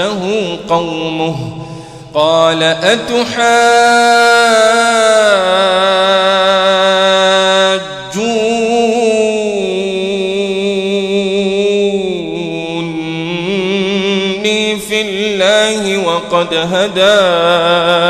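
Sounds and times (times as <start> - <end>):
person reciting melodically: 0.0 - 18.0.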